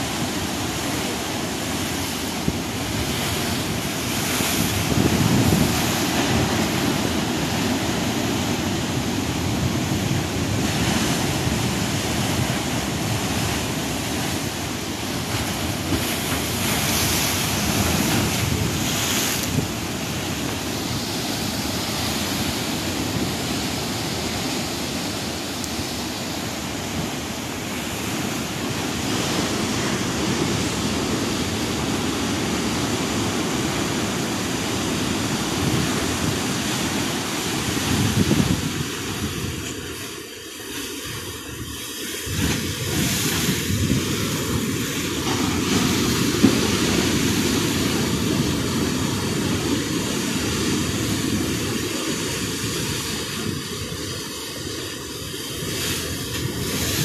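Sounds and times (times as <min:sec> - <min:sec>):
wind buffeting microphone: 0:00.0 - 0:40.1, 0:41.0 - 0:57.0
surf breaking on rocks: 0:00.0 - 0:57.0.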